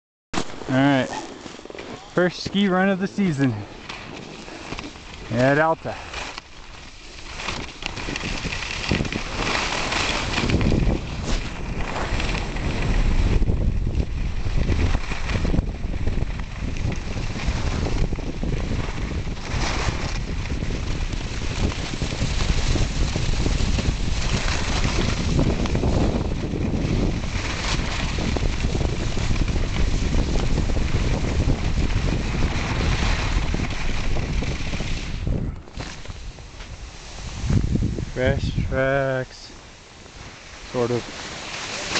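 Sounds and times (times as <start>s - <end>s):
skis scraping on snow: 0.4s - 41.9s
wind rushing over microphone: 2.1s - 41.9s.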